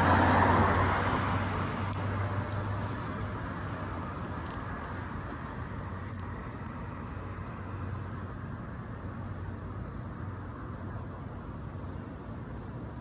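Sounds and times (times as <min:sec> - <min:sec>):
car passing: 0:00.0 - 0:13.0
low engine hum: 0:00.0 - 0:13.0.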